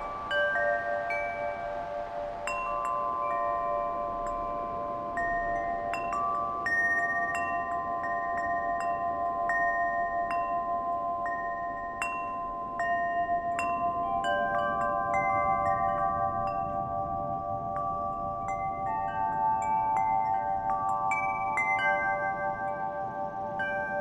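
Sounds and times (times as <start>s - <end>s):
soft steady rushing noise: 0.0s - 24.0s
wind chimes ringing: 0.0s - 24.0s.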